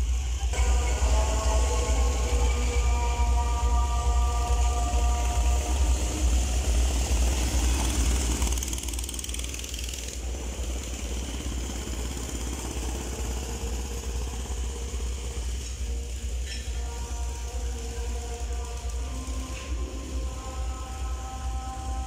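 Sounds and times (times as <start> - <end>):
go-kart engines running: 0.0 - 22.0.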